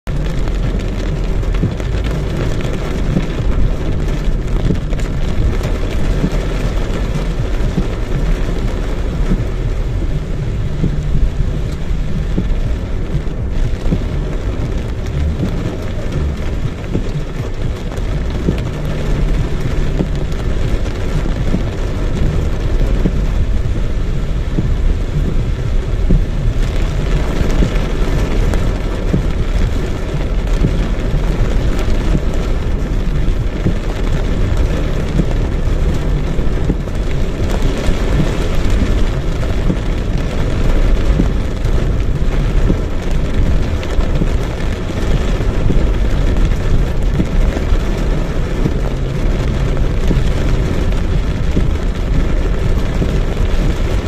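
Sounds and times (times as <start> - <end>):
heavy rain pouring: 0.0 - 54.0
low rumble: 0.0 - 54.0.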